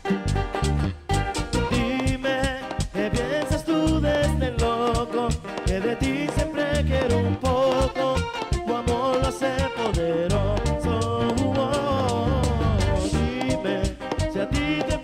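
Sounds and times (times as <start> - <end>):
latin band playing: 0.0 - 15.0
man singing into a microphone: 1.7 - 15.0.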